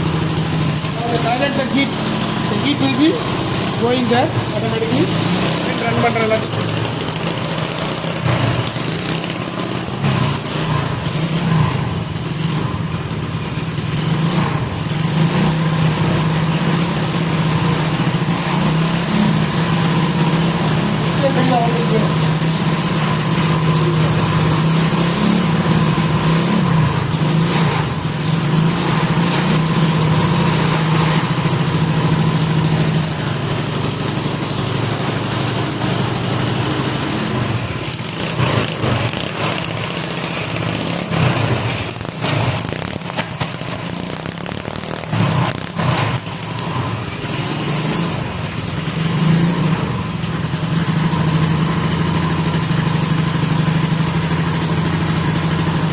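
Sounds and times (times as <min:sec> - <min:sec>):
small petrol engine running: 0:00.0 - 0:55.9.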